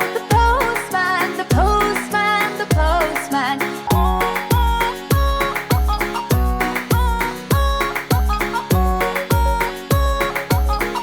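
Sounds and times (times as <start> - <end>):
bright keyboard melody: 0.0 - 11.0.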